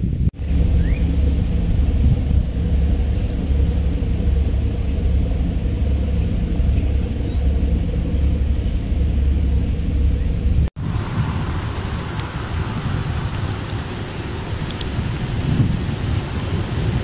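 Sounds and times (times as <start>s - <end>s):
steady low hum: 0.0s - 17.0s
wind buffeting microphone: 0.0s - 17.0s.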